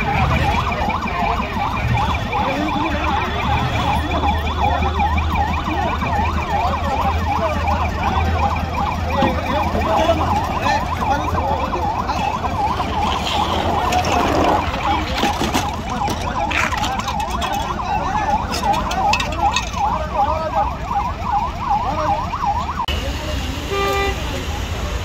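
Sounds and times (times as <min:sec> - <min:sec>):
siren yelping: 0:00.0 - 0:22.9
engine and traffic rumble: 0:00.0 - 0:25.0.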